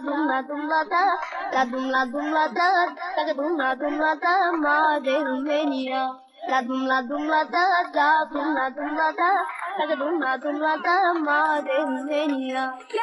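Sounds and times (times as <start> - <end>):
high-pitched voice singing: 0.0 - 13.0.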